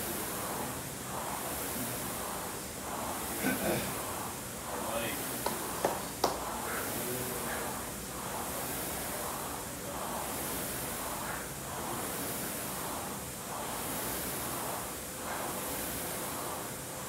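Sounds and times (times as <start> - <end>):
rowing machine fan whooshing: 0.0 - 17.0.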